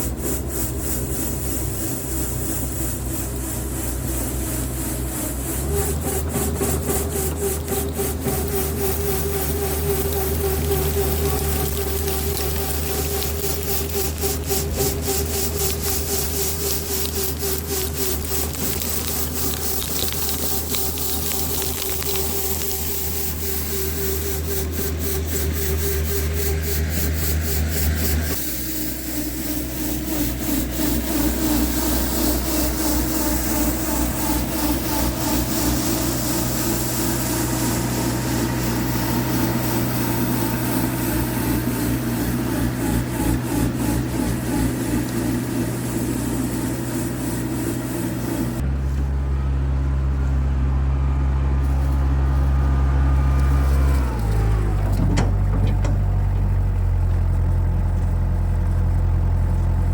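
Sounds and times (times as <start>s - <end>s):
rotary broom brushes swishing: 0.0s - 49.0s
tractor engine drone: 0.0s - 59.9s.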